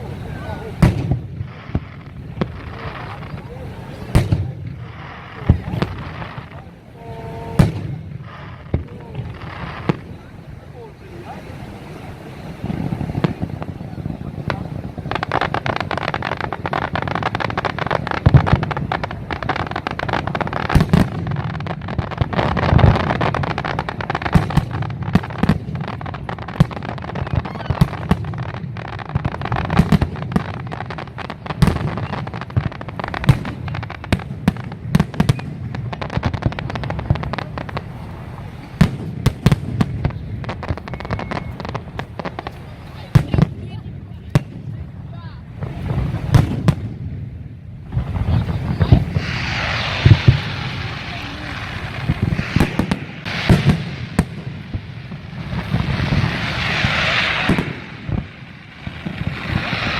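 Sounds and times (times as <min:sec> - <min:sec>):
fireworks crackle: 0:00.0 - 0:59.9.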